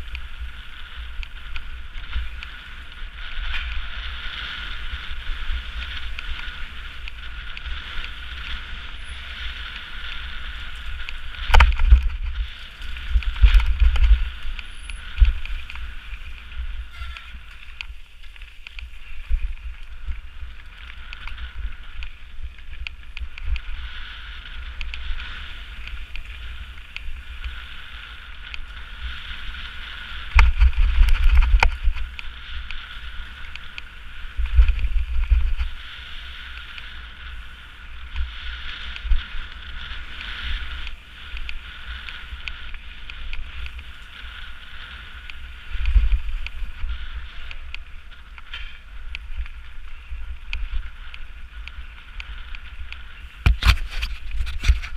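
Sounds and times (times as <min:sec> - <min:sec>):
bike rattling over bumps: 0:00.0 - 0:54.9
tyres on gravel: 0:00.0 - 0:54.9
wind rumbling on microphone: 0:00.0 - 0:54.9.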